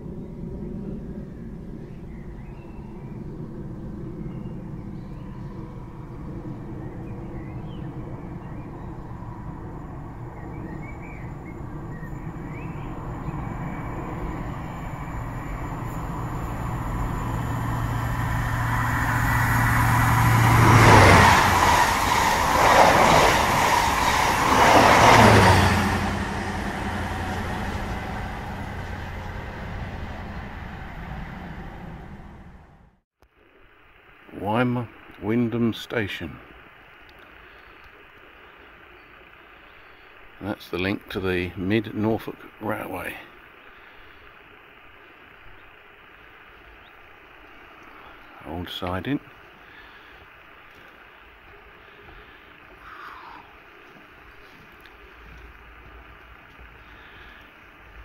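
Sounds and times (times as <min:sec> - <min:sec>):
rail noise: 0:00.0 - 0:58.0
train engine hum: 0:00.0 - 0:58.0.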